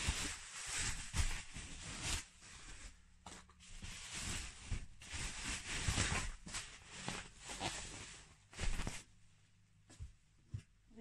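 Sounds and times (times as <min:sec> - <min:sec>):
bubble wrap rustling and crinkling: 0:00.0 - 0:09.1.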